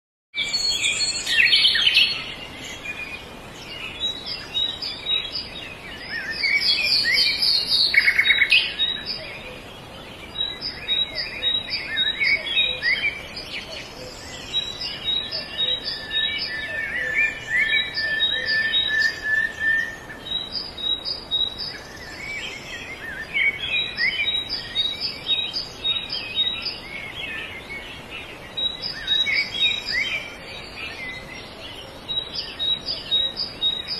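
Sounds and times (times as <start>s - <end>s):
birds chirping and calling: 0.4s - 33.9s.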